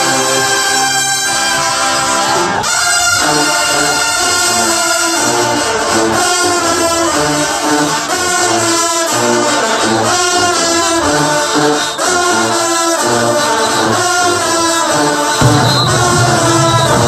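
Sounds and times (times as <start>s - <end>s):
brass horn music with bass line: 0.0s - 17.0s.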